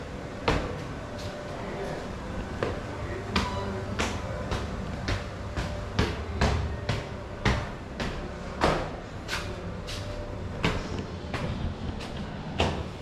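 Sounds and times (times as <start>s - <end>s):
footsteps walking: 0.3s - 13.0s.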